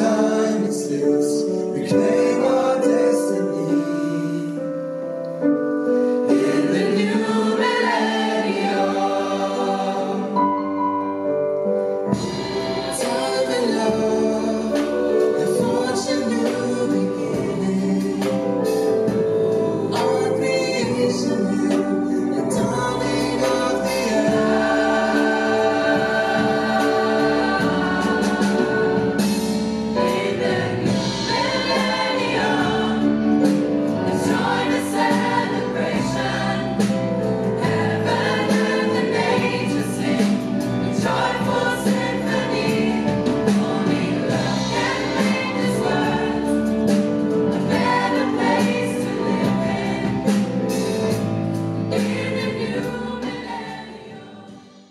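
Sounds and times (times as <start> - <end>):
youth choir singing: 0.0 - 3.8, 6.2 - 10.7, 12.1 - 51.2, 51.9 - 54.9.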